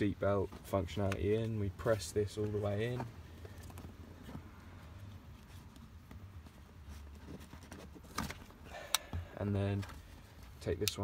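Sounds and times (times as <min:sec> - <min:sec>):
seatbelt rustling and tapping: 0:00.2 - 0:11.0.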